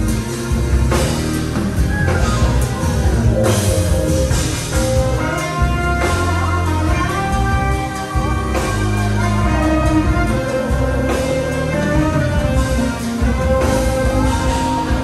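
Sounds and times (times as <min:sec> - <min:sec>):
drum kit: 0:00.0 - 0:15.0
heavy bass line: 0:00.0 - 0:15.0
jazz fusion band playing: 0:00.0 - 0:15.0.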